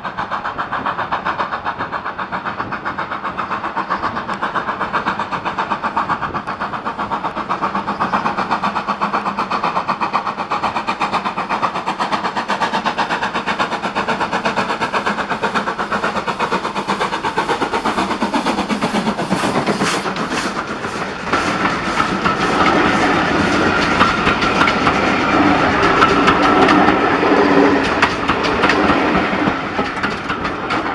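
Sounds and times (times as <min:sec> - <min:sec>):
steam locomotive exhaust beats: 0:00.0 - 0:30.9.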